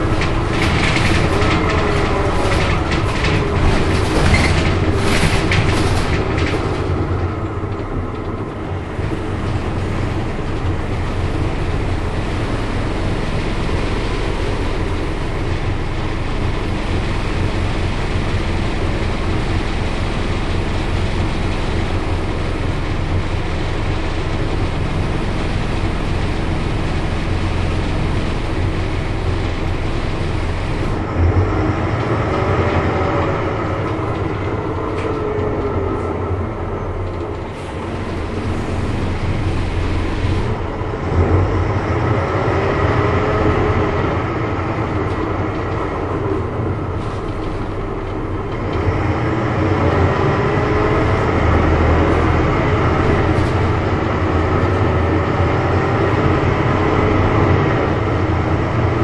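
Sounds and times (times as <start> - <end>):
bus diesel drone: 0.0 - 59.0
road and body rattle: 0.0 - 59.0.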